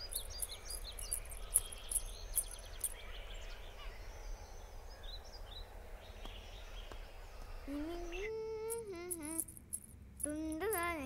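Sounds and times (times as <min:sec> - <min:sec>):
low steady background: 0:00.0 - 0:11.0
small birds chirping: 0:00.0 - 0:11.0.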